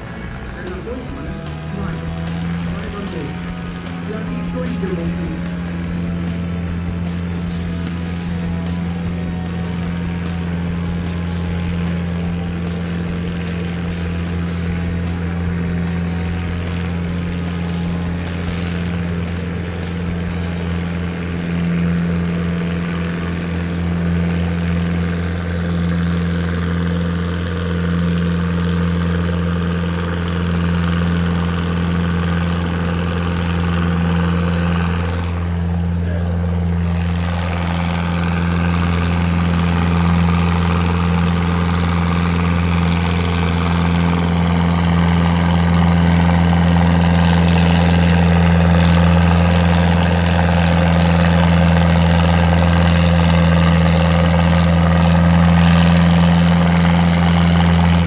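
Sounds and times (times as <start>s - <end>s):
tractor engine under heavy load: 0.0s - 58.0s.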